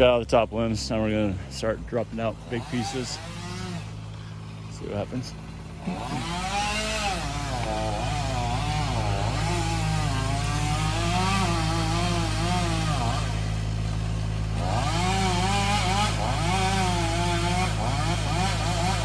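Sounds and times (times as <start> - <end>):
low engine drone: 0.0 - 18.7
chainsaw cutting wood: 0.0 - 19.0.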